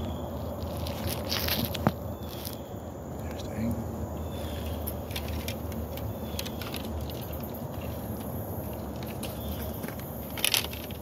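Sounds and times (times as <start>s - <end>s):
rustle: 0.0s - 11.0s.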